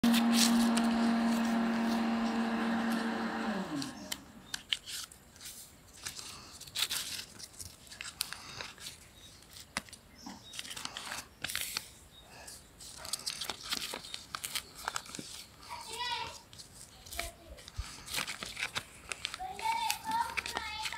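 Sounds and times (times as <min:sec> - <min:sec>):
paper being folded and creased: 0:00.0 - 0:02.4, 0:03.7 - 0:20.9.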